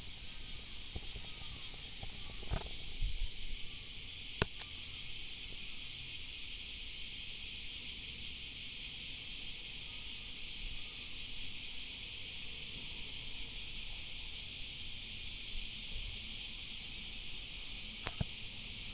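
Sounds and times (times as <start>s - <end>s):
crickets trilling: 0.0s - 18.9s.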